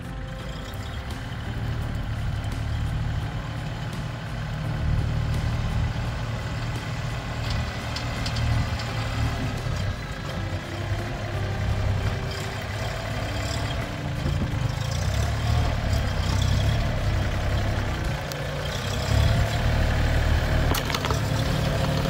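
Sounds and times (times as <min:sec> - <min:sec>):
loader bucket pushing dirt: 0:00.0 - 0:22.0
tractor diesel engine running: 0:00.0 - 0:22.0.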